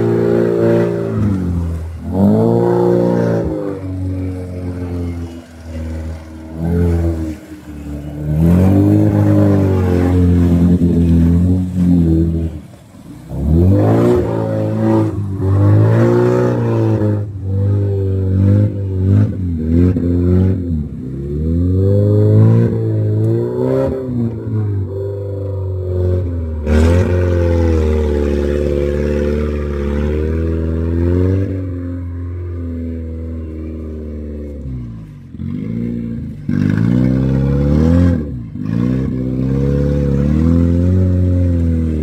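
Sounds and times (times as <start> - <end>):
water splashing from wheels: 0.0 - 24.9, 25.5 - 42.0
off-road car engine revving: 0.0 - 42.0.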